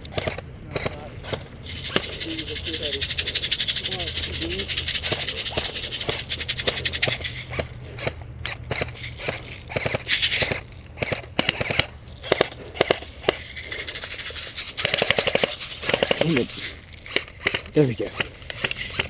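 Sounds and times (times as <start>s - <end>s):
airsoft gun clicking shots: 0.0s - 2.2s, 4.8s - 14.1s, 14.7s - 19.0s.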